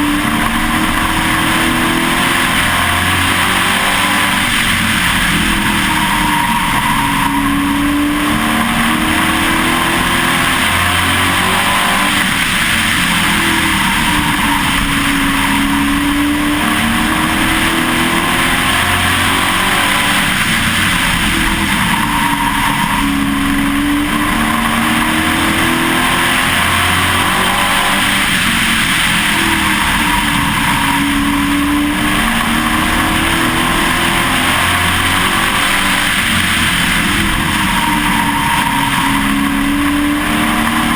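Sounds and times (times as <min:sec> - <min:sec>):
racing truck engine: 0:00.0 - 0:40.9.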